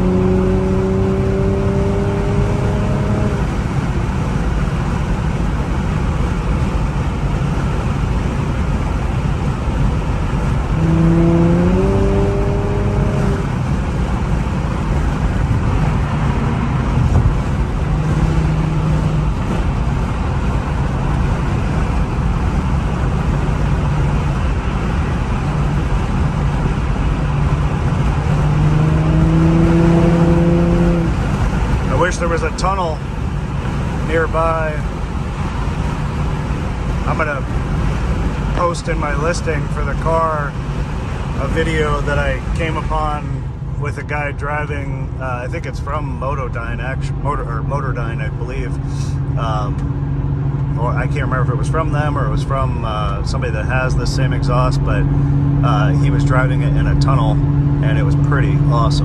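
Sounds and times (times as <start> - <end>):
car engine accelerating: 0.0 - 59.0
road noise: 0.0 - 59.0.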